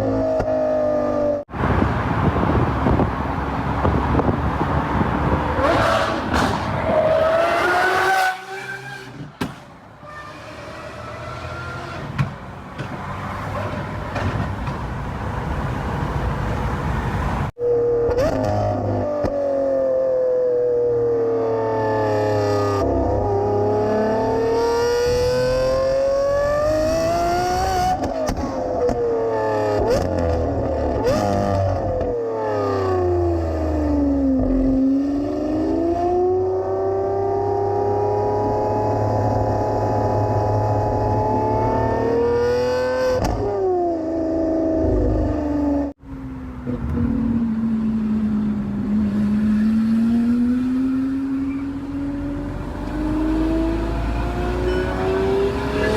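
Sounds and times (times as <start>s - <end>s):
car engine revving: 2.4s - 14.7s, 20.6s - 55.9s.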